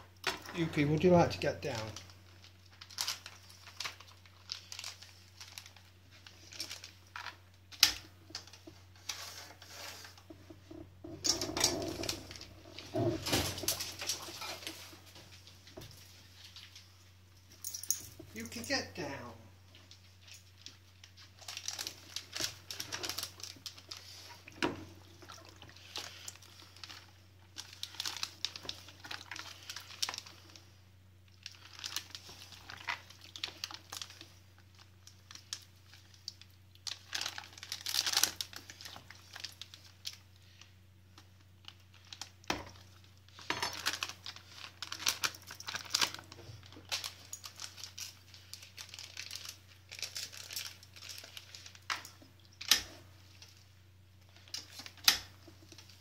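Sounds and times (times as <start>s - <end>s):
plastic bag crinkling: 0.4s - 56.0s.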